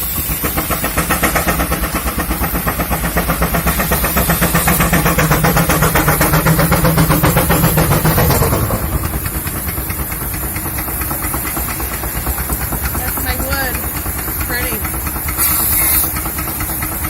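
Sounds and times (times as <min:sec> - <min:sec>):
engine running a sawmill: 0:00.0 - 0:17.0.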